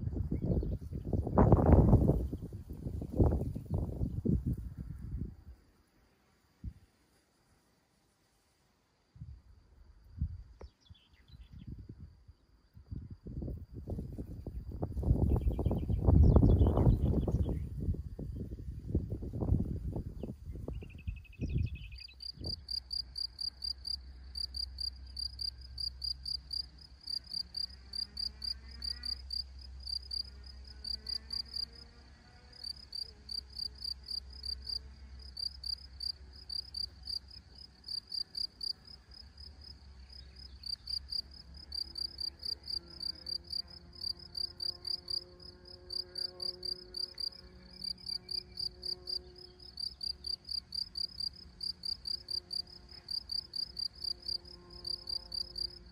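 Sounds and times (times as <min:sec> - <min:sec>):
crickets chirping: 0:00.1 - 0:55.9.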